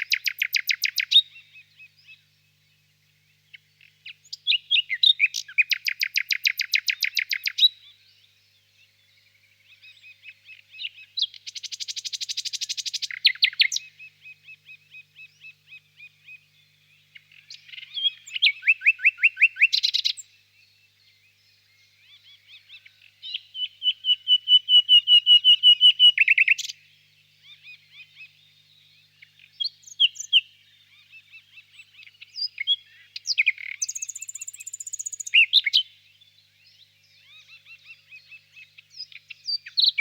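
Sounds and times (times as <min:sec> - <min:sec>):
nightingale singing: 0:00.0 - 0:40.0.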